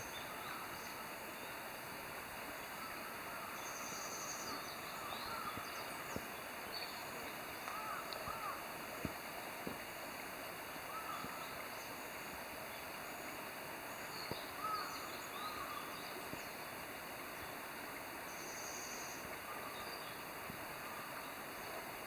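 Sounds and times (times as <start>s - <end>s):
steady rushing hiss: 0.0s - 22.0s.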